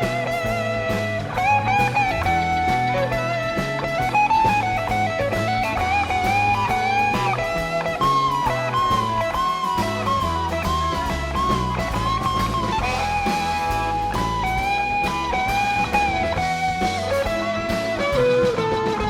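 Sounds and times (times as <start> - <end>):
bass and drums: 0.0 - 19.0
electric guitar lead: 0.0 - 19.0.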